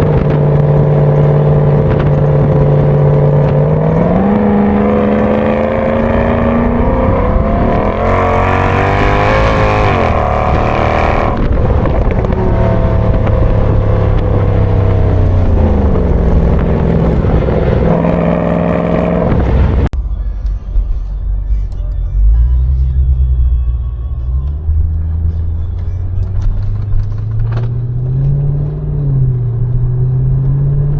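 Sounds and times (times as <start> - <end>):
car engine accelerating: 0.0 - 30.9.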